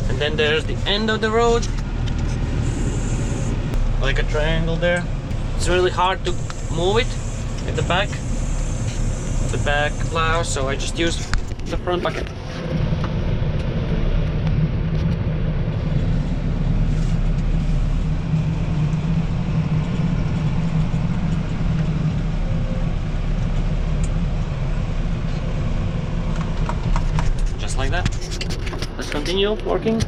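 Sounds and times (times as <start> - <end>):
tractor engine rumbling: 0.0 - 30.0.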